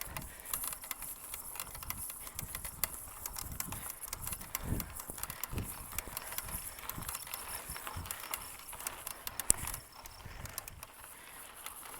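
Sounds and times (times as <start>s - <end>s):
bicycle creaking and clicking: 0.0s - 11.9s.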